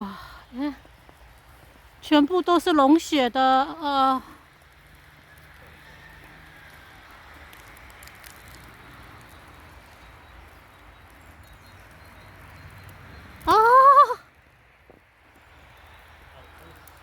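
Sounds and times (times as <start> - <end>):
melting snow dripping: 0.0 - 17.0.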